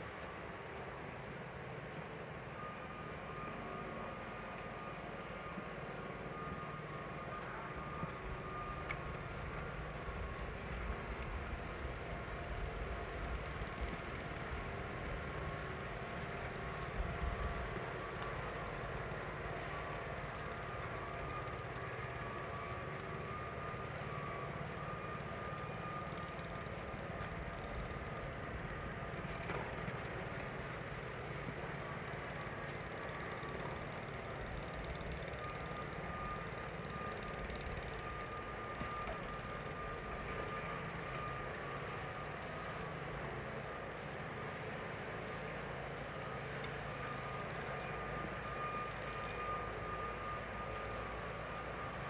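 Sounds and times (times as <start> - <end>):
thin steady whine: 0.0 - 52.0.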